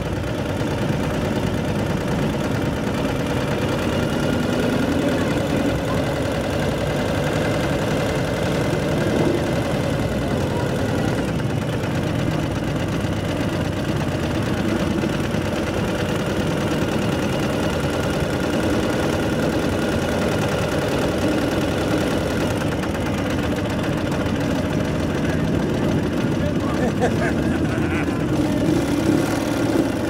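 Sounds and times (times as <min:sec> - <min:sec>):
motorcycle engines running: 0:00.0 - 0:30.0.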